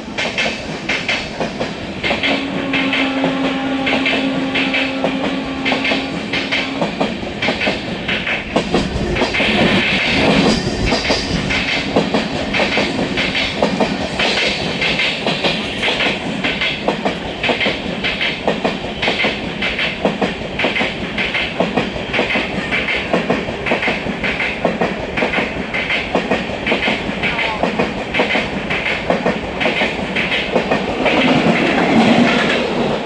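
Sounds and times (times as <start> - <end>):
train rumble: 0.0 - 33.0
train wheels clattering: 0.0 - 33.0.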